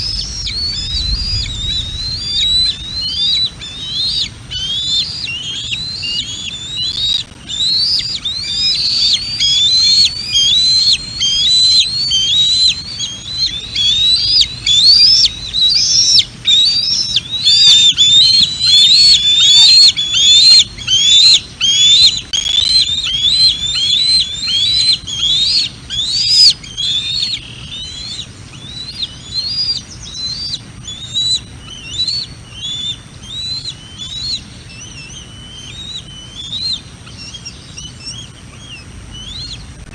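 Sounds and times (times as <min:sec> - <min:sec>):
eaglet calling: 0:00.0 - 0:39.9.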